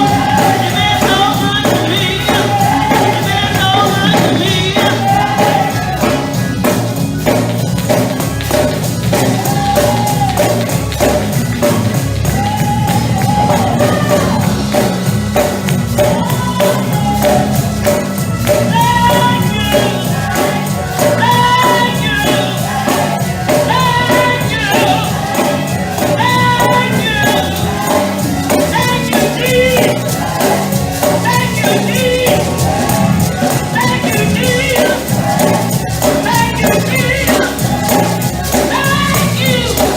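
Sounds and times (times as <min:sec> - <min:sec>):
band accompaniment: 0:00.0 - 0:39.9
people singing gospel: 0:00.0 - 0:39.9.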